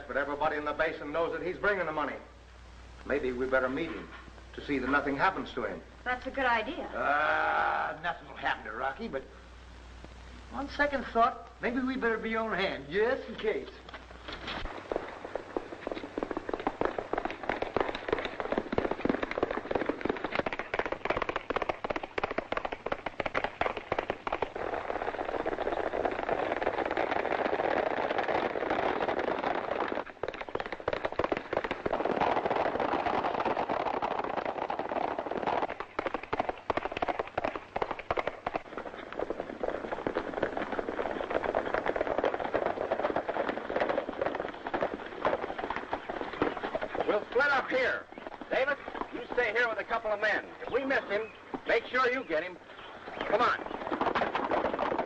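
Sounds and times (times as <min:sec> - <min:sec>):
horses galloping: 0:00.0 - 0:55.0.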